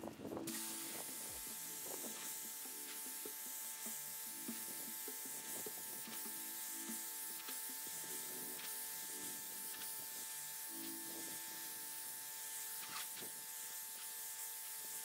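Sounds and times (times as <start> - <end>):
thin steady washer whine: 0.0 - 15.0
pressure washer spray hissing: 0.2 - 15.0.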